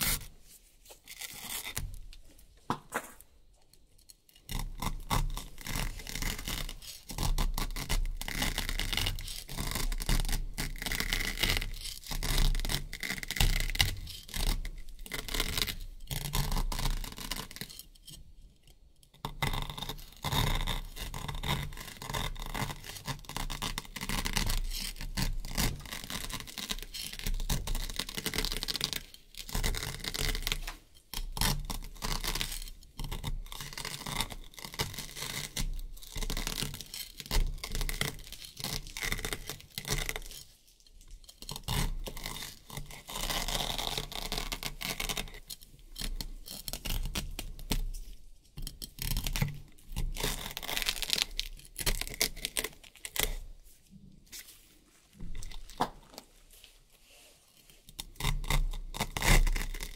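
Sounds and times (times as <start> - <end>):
knife sawing through velcro: 0.0 - 0.3, 1.0 - 2.1, 4.4 - 18.2, 19.2 - 53.5, 57.4 - 59.9.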